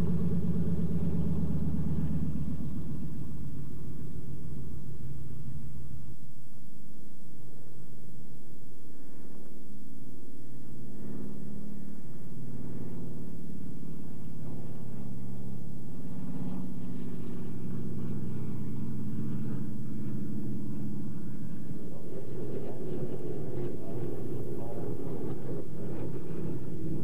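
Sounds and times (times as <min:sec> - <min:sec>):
propeller plane engines droning: 0:00.0 - 0:27.0.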